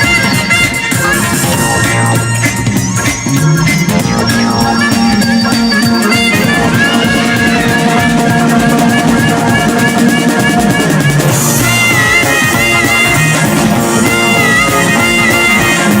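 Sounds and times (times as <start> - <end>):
music with drums and guitar: 0.0 - 16.0.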